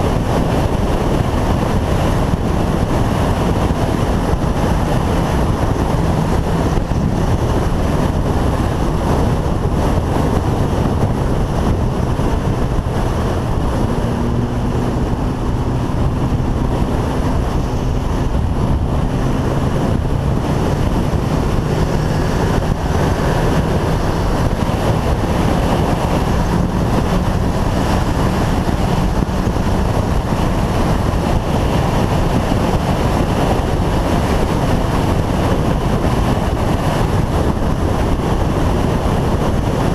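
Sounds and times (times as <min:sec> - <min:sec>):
motorcycle engine: 0:00.0 - 0:39.9
wind buffeting microphone: 0:00.0 - 0:39.9.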